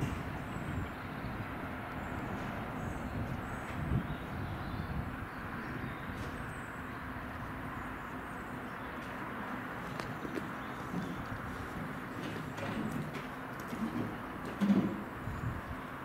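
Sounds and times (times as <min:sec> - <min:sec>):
train engine and wheels rumbling: 0:00.0 - 0:16.0.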